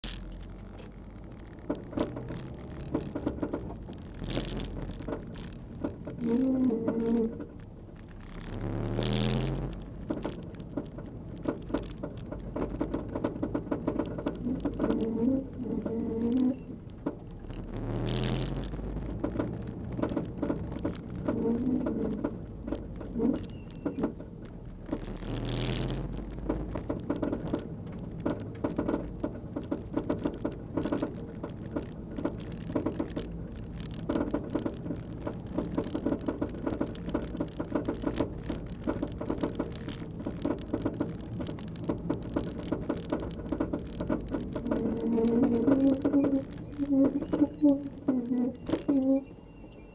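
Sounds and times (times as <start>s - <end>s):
engine and road drone: 0.0s - 48.9s.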